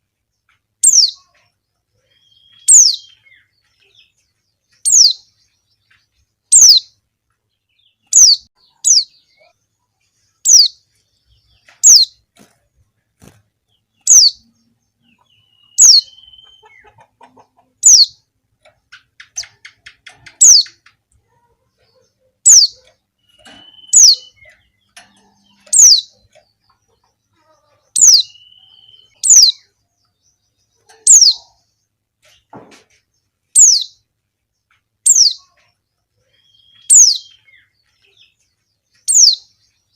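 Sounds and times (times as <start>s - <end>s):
soft bird twittering: 0.4s - 7.0s, 7.7s - 21.0s, 21.8s - 39.9s.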